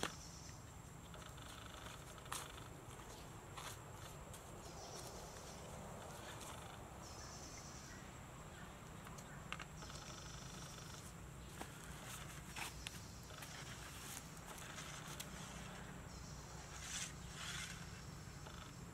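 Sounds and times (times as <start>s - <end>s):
steady low hiss: 0.0s - 18.9s.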